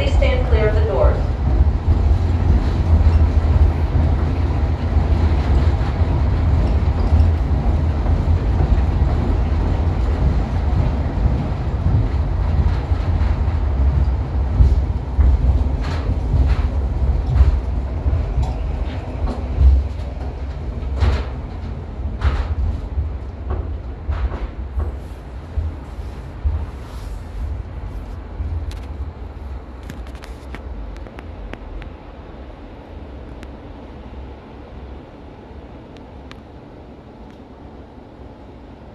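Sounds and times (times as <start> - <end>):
people mover rumbling: 0.0 - 31.4.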